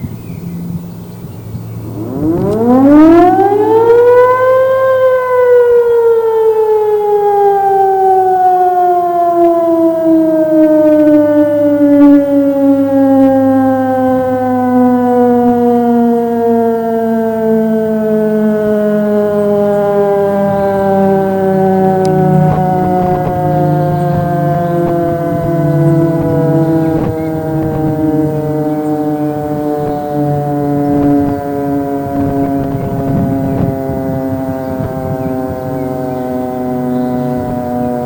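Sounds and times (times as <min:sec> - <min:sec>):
electric siren wailing: 0:00.0 - 0:38.0.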